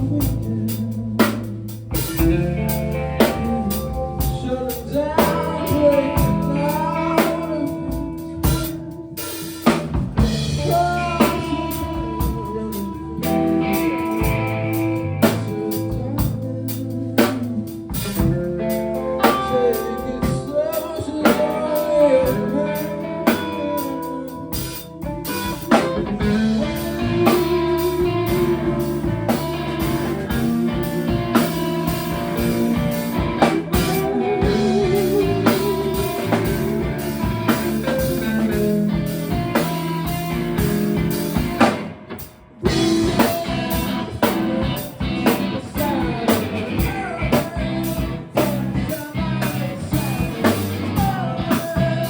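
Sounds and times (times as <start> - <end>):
drum kit: 0.0 - 52.0
electric guitar: 0.0 - 52.0.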